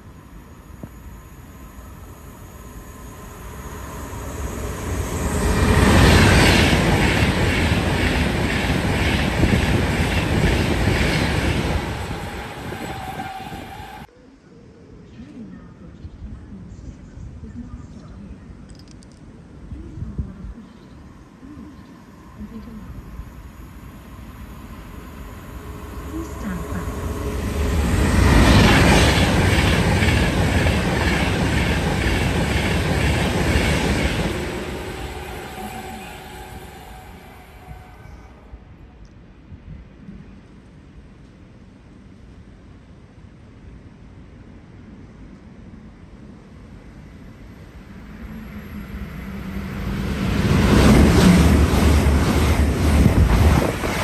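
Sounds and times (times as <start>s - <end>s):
train rumble and rush of air: 0.0s - 14.1s, 15.8s - 54.0s.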